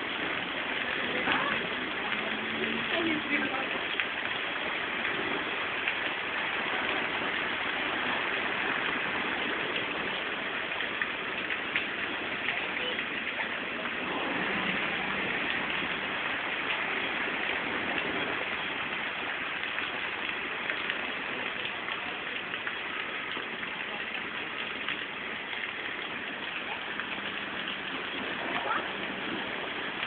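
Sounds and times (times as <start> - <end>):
heavy rain falling: 0.0 - 30.0
raindrops ticking on hard surfaces: 0.0 - 30.0.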